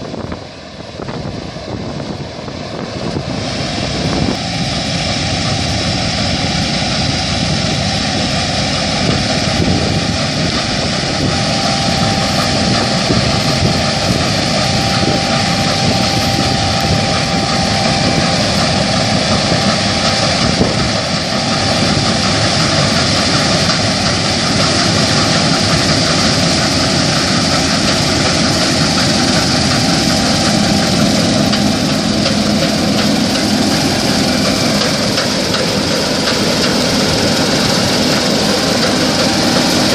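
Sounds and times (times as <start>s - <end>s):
combine harvester running: 0.0s - 39.9s
faint high whine: 0.0s - 39.9s.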